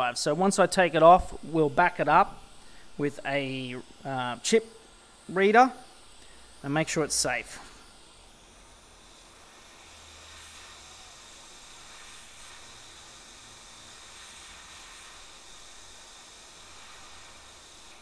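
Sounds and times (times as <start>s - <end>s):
hot air station hissing: 0.0s - 18.0s.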